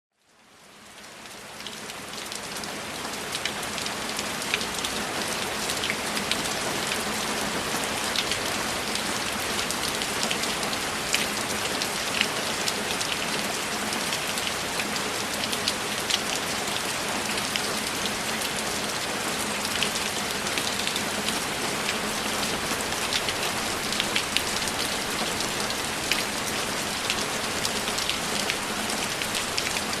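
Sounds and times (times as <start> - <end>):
steady rain falling: 0.2 - 30.0.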